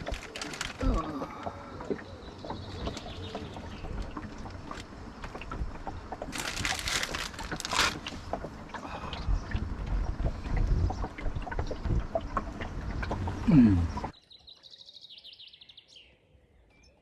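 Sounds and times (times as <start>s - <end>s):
wind buffeting microphone: 0.0s - 14.1s
water moving around boat: 0.0s - 14.2s.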